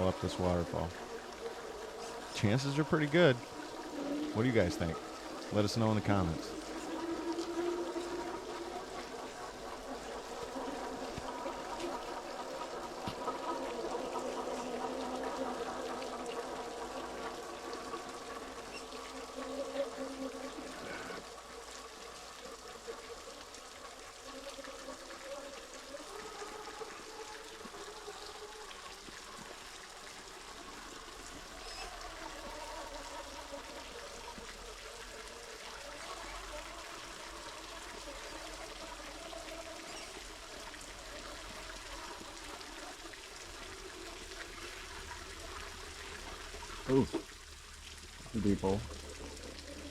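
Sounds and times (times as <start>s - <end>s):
steady multi-tone whine: 0.0s - 47.8s
water splashing over small waterfall: 0.0s - 49.9s.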